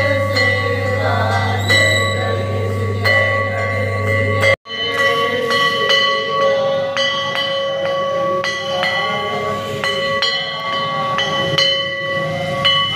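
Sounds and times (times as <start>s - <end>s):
metal bell ringing: 0.0s - 12.9s.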